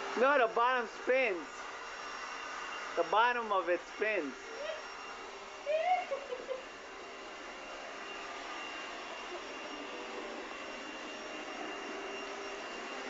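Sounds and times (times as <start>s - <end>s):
vacuum cleaner motor running: 0.0s - 13.0s.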